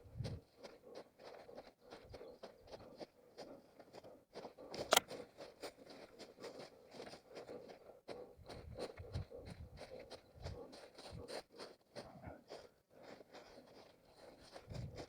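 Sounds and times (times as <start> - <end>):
running footsteps on forest ground: 0.0 - 15.0.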